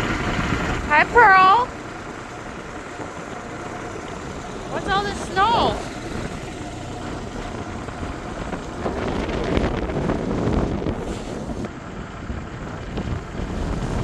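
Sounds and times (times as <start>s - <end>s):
wind buffeting microphone: 1.7s - 14.0s.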